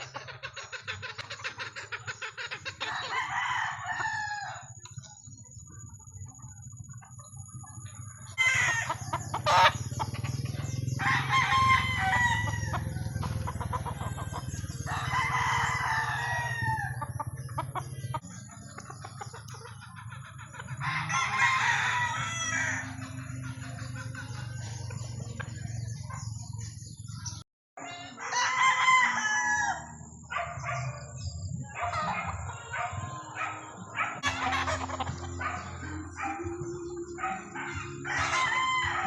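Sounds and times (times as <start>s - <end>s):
roosters crowing: 0.0s - 5.4s, 7.8s - 27.2s, 27.8s - 39.0s.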